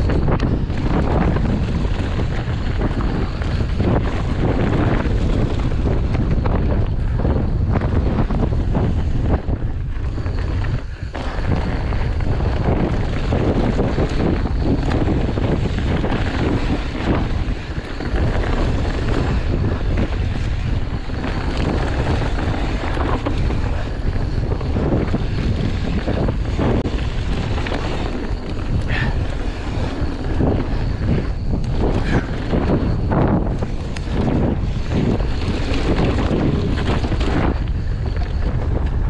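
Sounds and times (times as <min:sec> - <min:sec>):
bike knocks and rattles: 0:00.0 - 0:39.0
wind buffeting microphone: 0:00.0 - 0:39.0.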